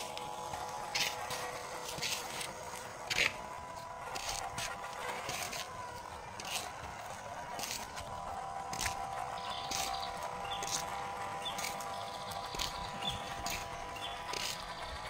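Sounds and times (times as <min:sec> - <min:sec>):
electric motor and gears whining: 0:00.0 - 0:15.0
tyres scraping on concrete: 0:00.0 - 0:15.0.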